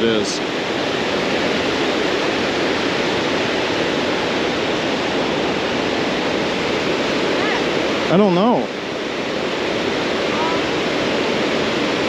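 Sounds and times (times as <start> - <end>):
water rushing over dam: 0.0 - 12.0.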